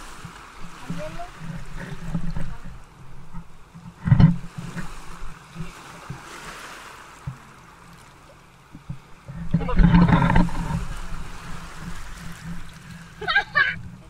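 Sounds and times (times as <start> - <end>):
wind rumbling on microphone: 0.0 - 7.9, 8.5 - 14.0
water lapping around boat: 0.0 - 14.0.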